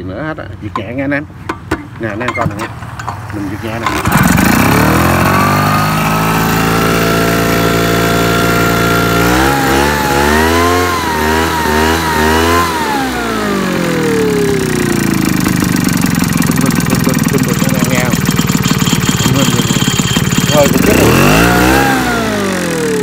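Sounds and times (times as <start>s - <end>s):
two-stroke engine revving: 2.0s - 23.0s.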